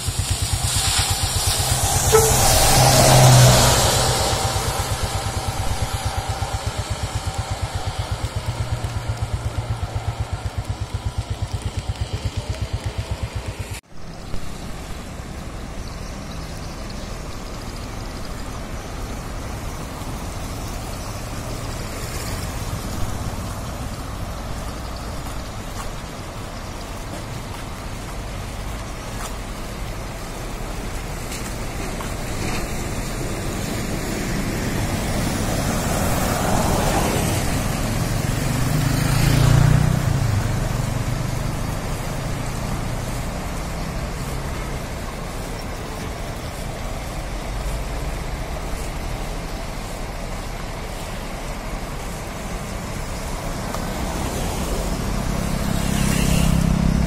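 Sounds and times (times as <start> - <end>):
traffic on wet road: 0.0 - 57.0.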